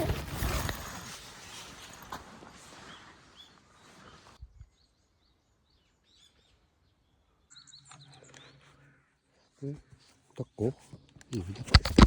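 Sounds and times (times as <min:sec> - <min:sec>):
faint birds chirping: 0:00.7 - 0:11.7.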